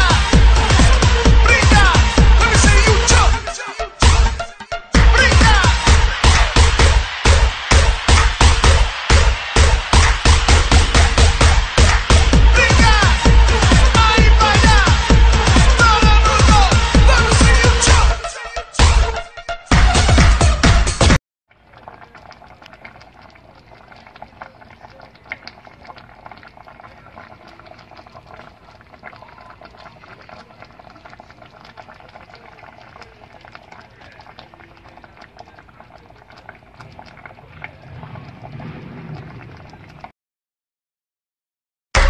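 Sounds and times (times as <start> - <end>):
pot bubbling and popping: 0.0 - 18.1, 21.5 - 40.1.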